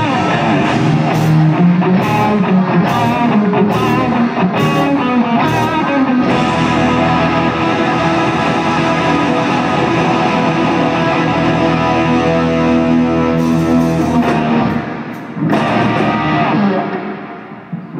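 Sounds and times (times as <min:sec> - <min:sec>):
rock music: 0:00.0 - 0:17.9.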